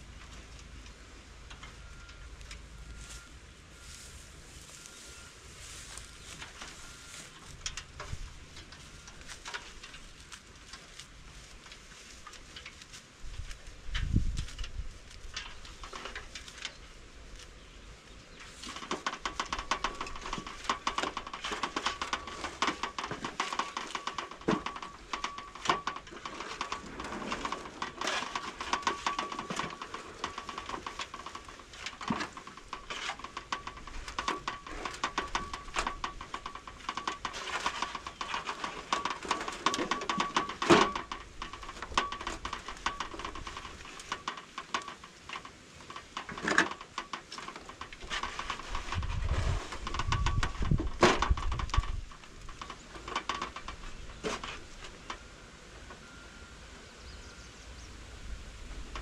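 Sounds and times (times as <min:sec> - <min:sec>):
mud squelching and crackling: 0:00.0 - 0:55.2.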